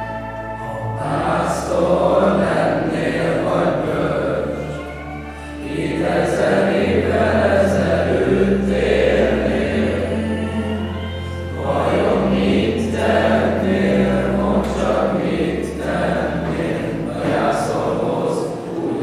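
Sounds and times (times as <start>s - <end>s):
boys choir singing in unison: 0.0s - 19.0s
instrumental accompaniment: 0.0s - 19.0s.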